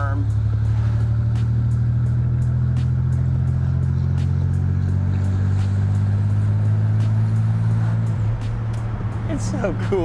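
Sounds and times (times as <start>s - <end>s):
car exhaust drone inside cabin: 0.0s - 10.0s.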